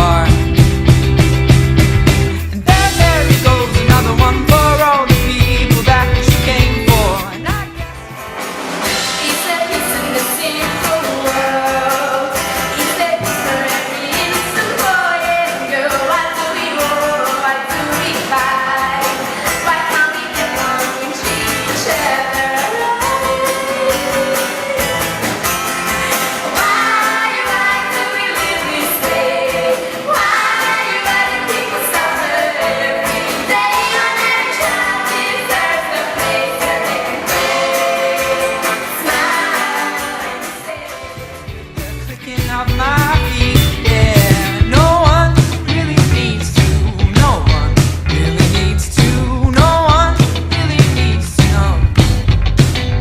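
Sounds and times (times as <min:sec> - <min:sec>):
pop-rock song with vocals: 0:00.0 - 0:53.0.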